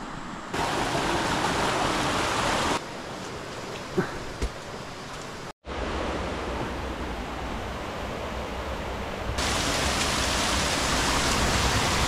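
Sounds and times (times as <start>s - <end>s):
flowing water rushing: 0.5s - 12.0s.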